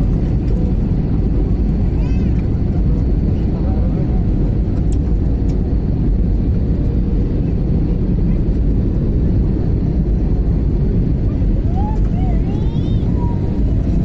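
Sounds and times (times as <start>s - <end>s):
jet engine and airflow rumble: 0.0s - 14.0s.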